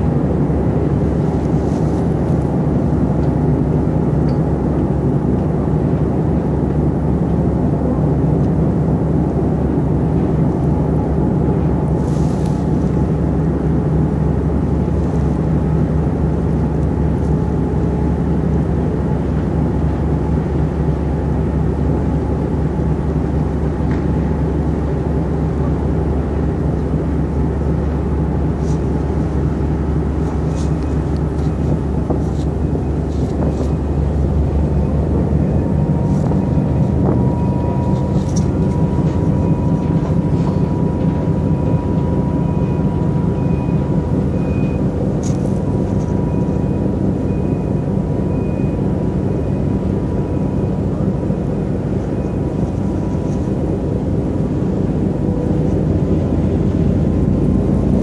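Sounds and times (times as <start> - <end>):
ship engines droning: 0.0 - 58.0.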